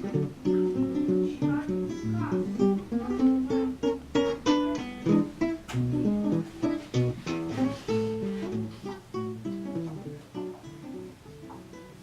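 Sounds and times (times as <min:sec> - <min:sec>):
acoustic guitar picking: 0:00.0 - 0:12.0.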